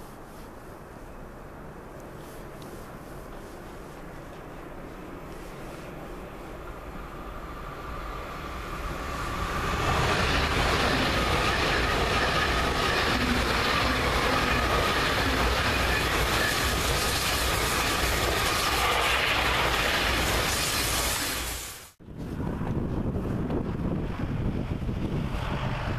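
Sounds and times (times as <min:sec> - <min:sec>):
high-speed train passing: 0:00.8 - 0:25.9.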